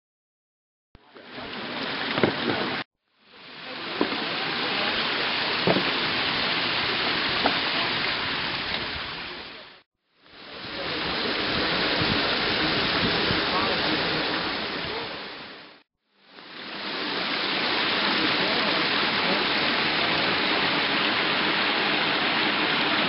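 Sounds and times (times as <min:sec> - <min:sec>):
rushing falling water: 0:01.0 - 0:23.0.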